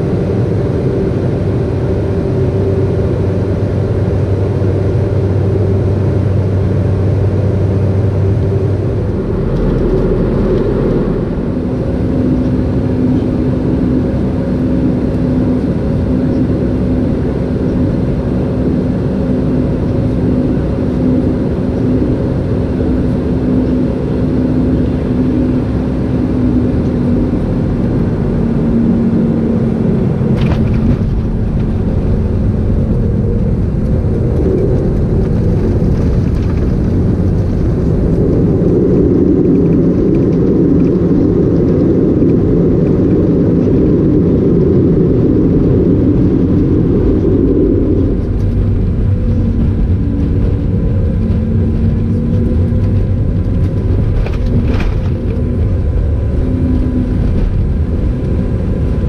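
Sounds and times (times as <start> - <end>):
airliner cabin engine rumble: 0.0 - 59.0
held hum: 0.0 - 59.0.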